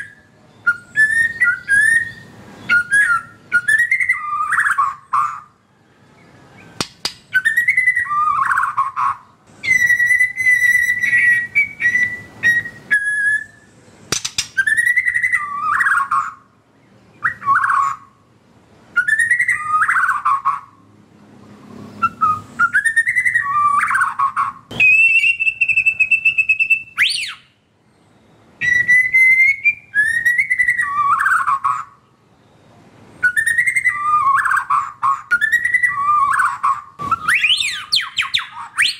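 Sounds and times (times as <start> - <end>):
bird singing whistled song: 0.0 - 18.2, 18.9 - 20.8, 21.6 - 38.9.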